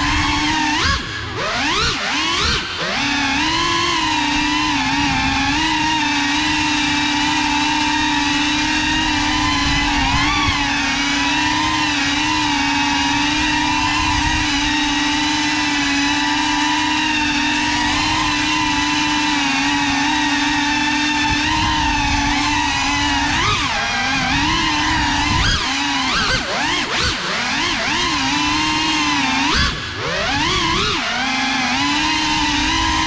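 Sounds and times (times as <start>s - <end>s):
drone buzzing whine: 0.0s - 33.0s.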